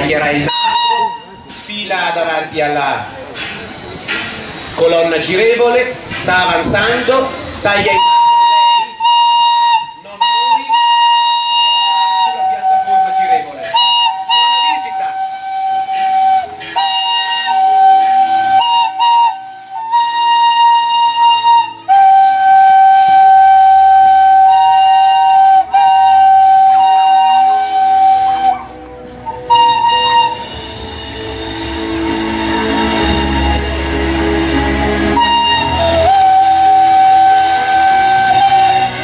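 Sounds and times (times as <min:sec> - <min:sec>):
steam locomotive whistle: 0:00.0 - 0:02.2, 0:07.3 - 0:39.0
steam hissing: 0:00.0 - 0:39.0.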